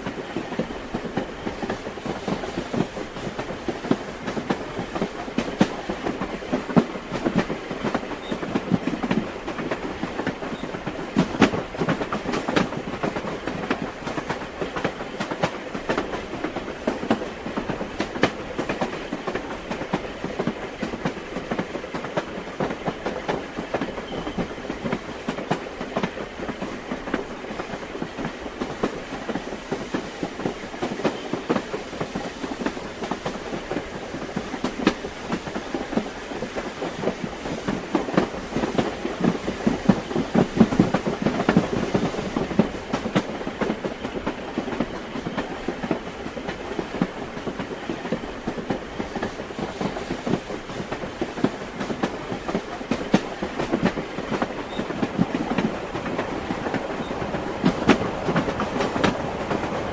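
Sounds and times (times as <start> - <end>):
train rolling rumble: 0.0 - 59.9
train wheels clattering: 0.0 - 59.9.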